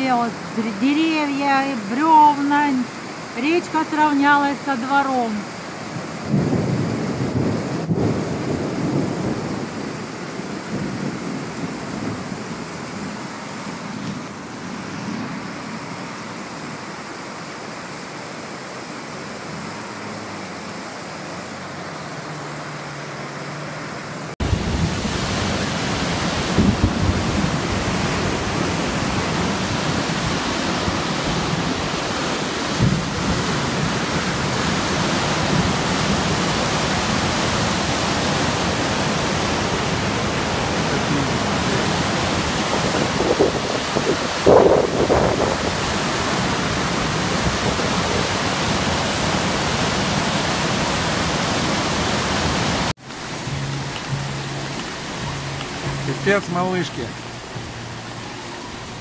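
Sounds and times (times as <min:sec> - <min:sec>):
flowing floodwater: 0:00.0 - 0:59.0
heavy rain: 0:00.0 - 0:59.0.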